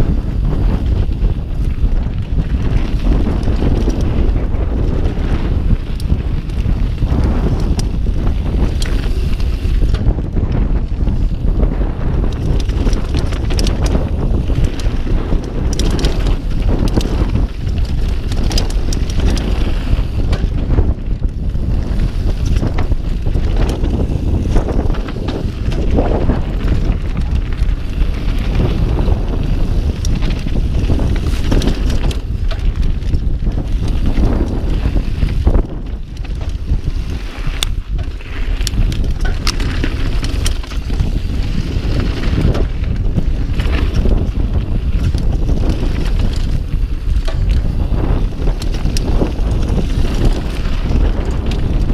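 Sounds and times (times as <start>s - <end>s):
bike clicks and rattles: 0.0s - 51.9s
tyre rumble and crunch: 0.0s - 51.9s
wind buffeting the microphone: 0.0s - 51.9s.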